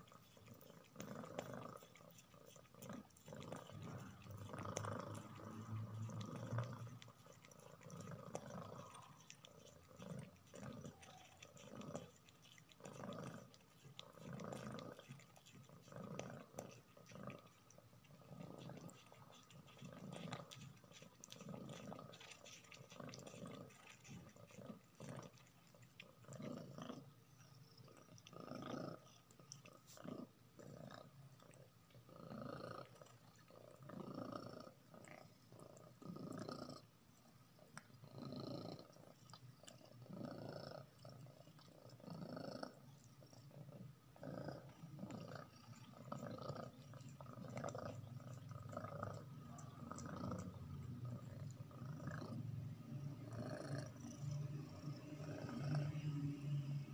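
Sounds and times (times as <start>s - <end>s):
cat licking and chewing: 0.0s - 56.9s
cat purring: 0.0s - 56.9s.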